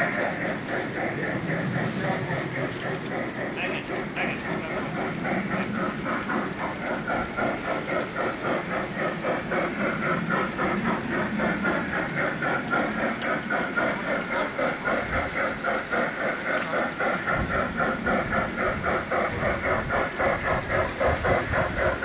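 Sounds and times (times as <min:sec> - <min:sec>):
model train running: 0:00.0 - 0:22.0.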